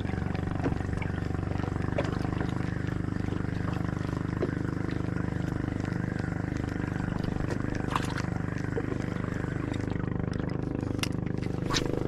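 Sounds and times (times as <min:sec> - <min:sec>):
small boat engine running: 0:00.0 - 0:12.0.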